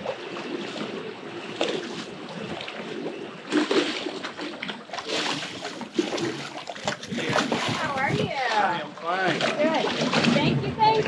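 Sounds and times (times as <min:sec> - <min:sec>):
water splashing against boat hull: 0:00.0 - 0:11.0.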